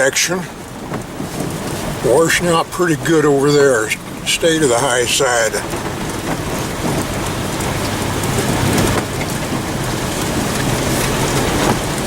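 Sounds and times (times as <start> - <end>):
truck engine humming: 0.0 - 12.0
water rushing around truck: 0.0 - 12.0.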